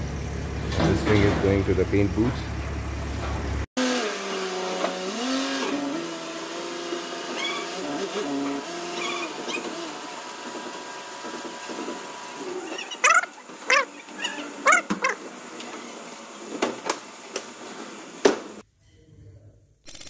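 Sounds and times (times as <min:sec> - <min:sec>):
car engine running: 0:00.0 - 0:03.7, 0:05.9 - 0:18.6.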